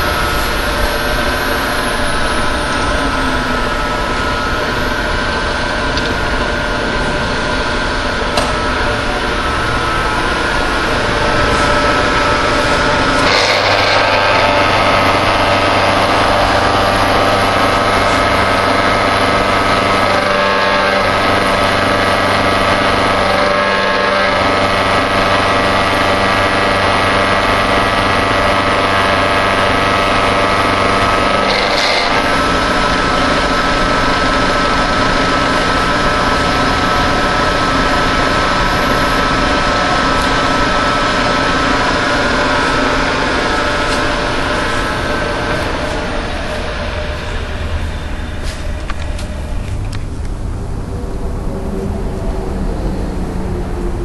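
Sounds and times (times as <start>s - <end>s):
milling machine humming: 0.0s - 54.0s.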